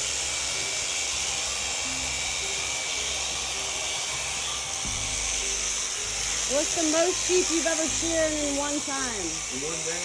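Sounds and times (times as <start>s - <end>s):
electric shearing handpiece buzzing: 0.0s - 10.0s.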